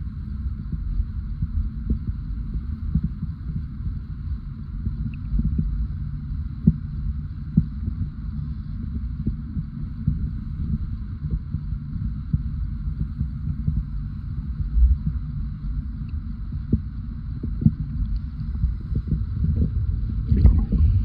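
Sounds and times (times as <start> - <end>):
underwater rumble of moving water: 0.0 - 21.0.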